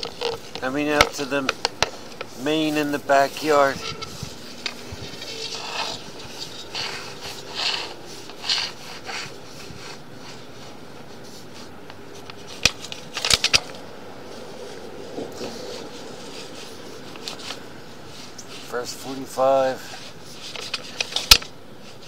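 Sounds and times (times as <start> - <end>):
camera scraping in pipe: 0.0 - 22.0.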